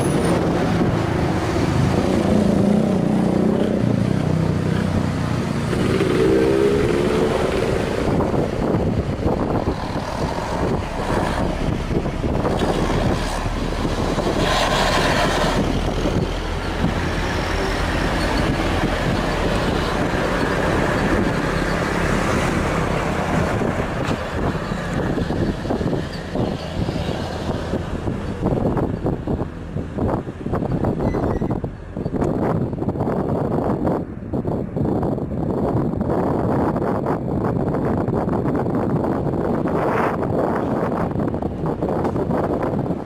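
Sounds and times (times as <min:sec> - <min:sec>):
truck diesel engine under load: 0:00.0 - 0:43.0.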